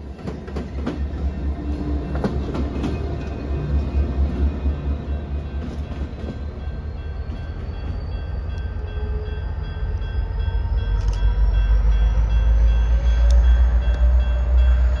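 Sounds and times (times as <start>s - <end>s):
diesel freight train rumble: 0.0s - 15.0s.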